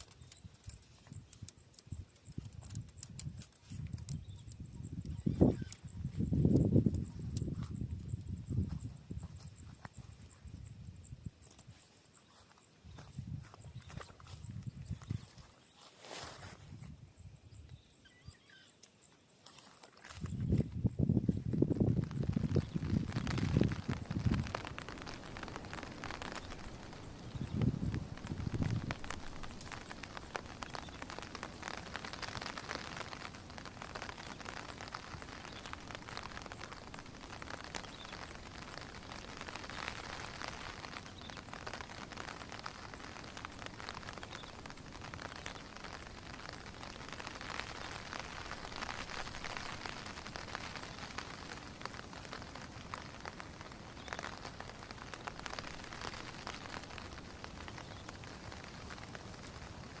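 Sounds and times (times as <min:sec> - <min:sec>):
steady rain falling: 0:00.0 - 0:11.8, 0:20.2 - 1:00.0.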